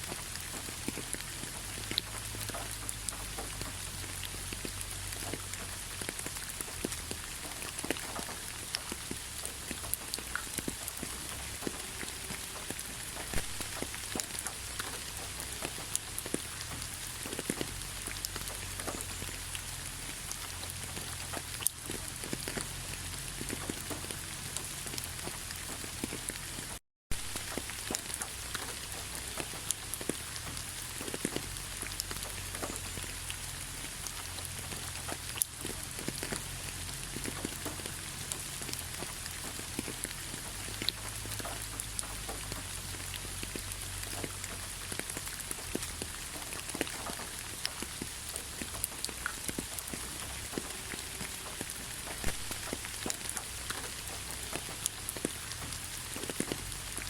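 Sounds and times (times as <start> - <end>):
raindrops pattering: 0.0 - 57.0
steady rainfall: 0.0 - 57.0.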